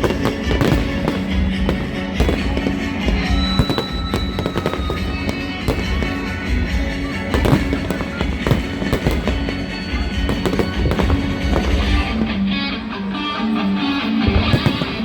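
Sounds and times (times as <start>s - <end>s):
fireworks bursting and crackling: 0.0s - 15.0s
loud music: 0.0s - 15.0s.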